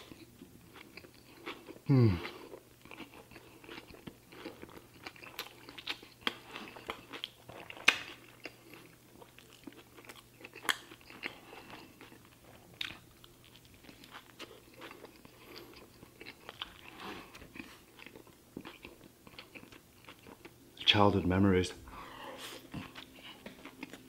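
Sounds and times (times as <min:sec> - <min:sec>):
person chewing with smacking: 0:00.0 - 0:20.6, 0:21.9 - 0:24.0.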